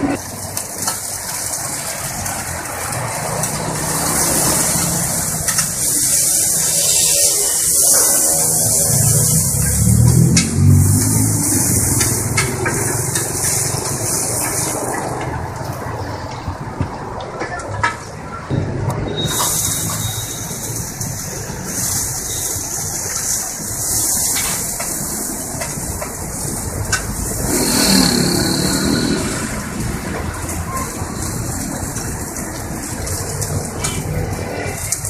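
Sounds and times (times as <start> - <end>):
food sizzling as it fries: 0.0 - 16.3, 19.3 - 35.0.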